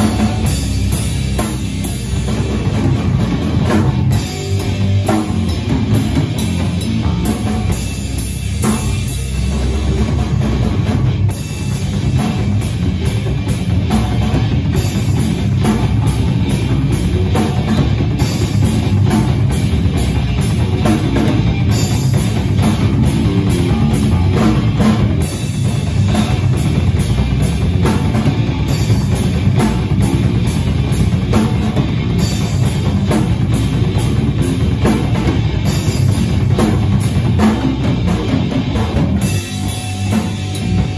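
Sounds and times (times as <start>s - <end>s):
bass drum: 0.0s - 40.9s
drum kit beat: 0.0s - 40.9s
guitar: 0.0s - 40.9s.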